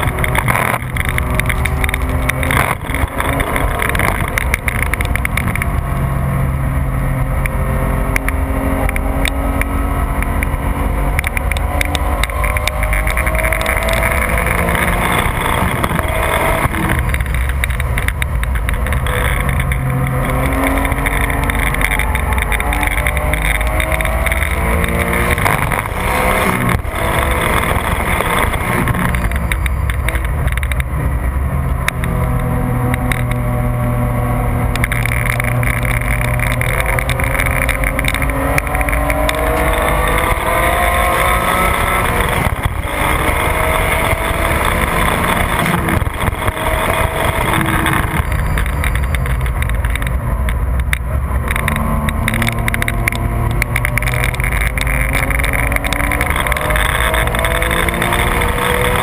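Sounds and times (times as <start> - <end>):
sports car engine revving: 0.0 - 59.0
wind and tyre noise: 0.0 - 59.0.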